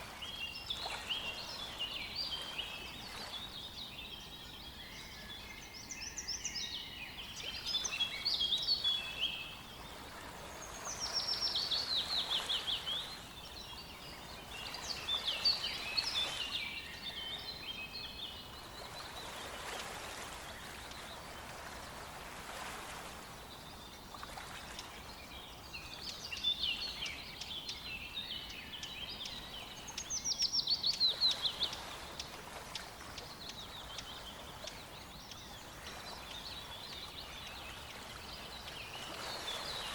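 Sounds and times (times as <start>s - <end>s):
flowing river water: 0.0s - 39.9s
songbirds singing: 0.0s - 39.9s.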